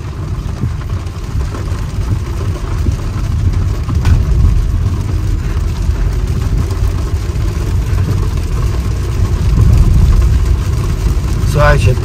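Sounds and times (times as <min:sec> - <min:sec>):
car engine rumble from inside: 0:00.0 - 0:12.0
tyres on wet road: 0:00.0 - 0:12.0.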